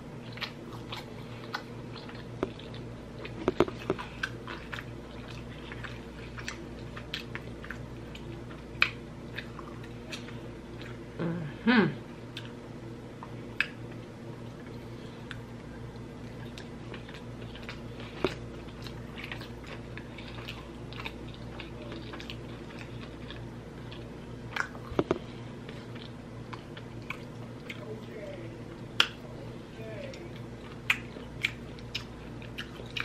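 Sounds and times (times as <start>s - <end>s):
steady low hum: 0.0s - 33.0s
person chewing food: 0.1s - 11.2s, 12.2s - 33.0s.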